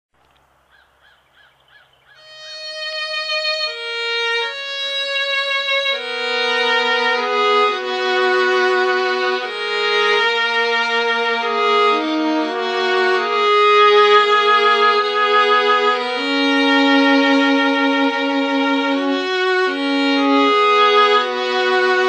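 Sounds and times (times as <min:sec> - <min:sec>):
slow violin music: 0:02.2 - 0:22.0.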